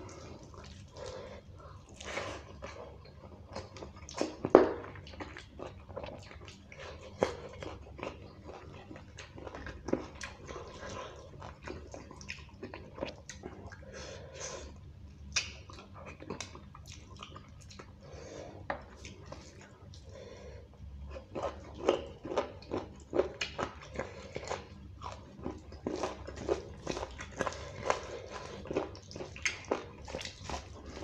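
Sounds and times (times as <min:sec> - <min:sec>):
chewing and smacking: 0:00.0 - 0:20.1, 0:21.1 - 0:31.0.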